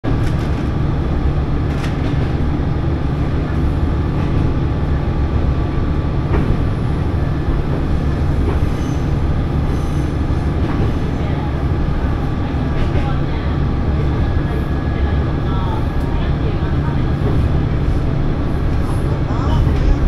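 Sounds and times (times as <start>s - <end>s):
diesel railcar rumbling: 0.0s - 20.0s.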